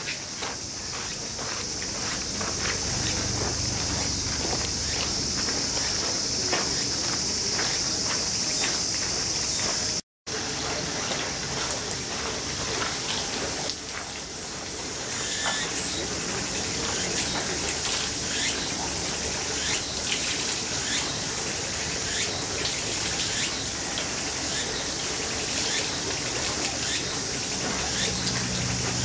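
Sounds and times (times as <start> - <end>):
short insect chirp: 0.0 - 10.0, 14.1 - 29.0
high insect drone: 0.0 - 29.0
water splashing into stone basin: 0.0 - 29.0.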